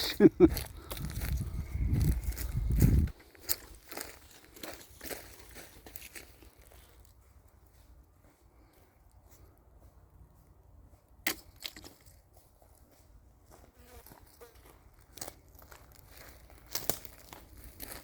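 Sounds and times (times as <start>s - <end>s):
footsteps on dry forest floor: 0.1s - 18.0s.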